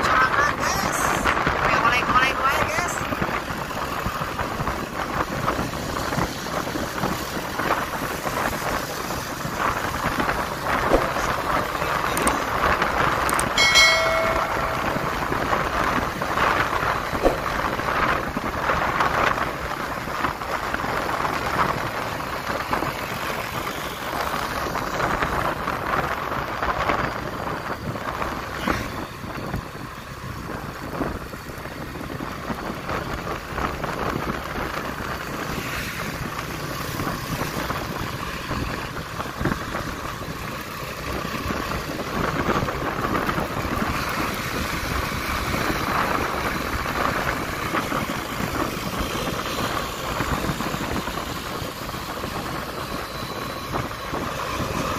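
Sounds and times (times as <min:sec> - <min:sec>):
wind rushing over microphone: 0:00.0 - 0:23.6, 0:24.4 - 0:54.9
motorcycle road noise: 0:00.0 - 0:54.9.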